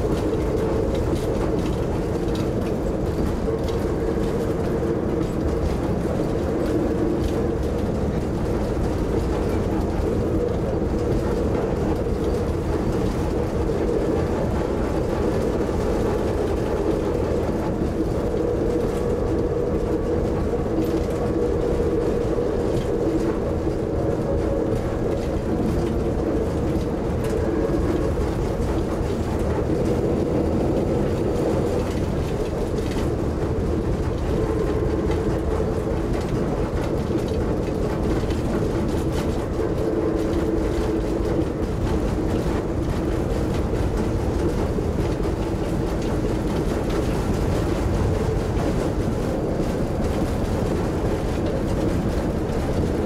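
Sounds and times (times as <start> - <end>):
rail bus engine drone: 0.0 - 53.0
wheels rumbling on rails: 0.0 - 53.0.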